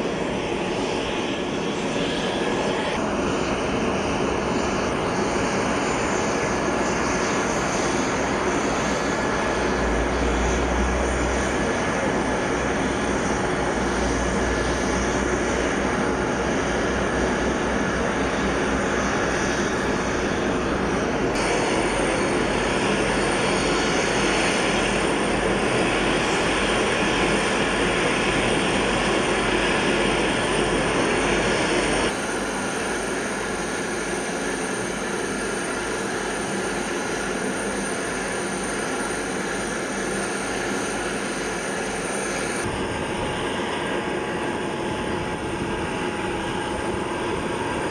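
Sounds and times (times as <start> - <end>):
jet engine noise: 0.0 - 47.9.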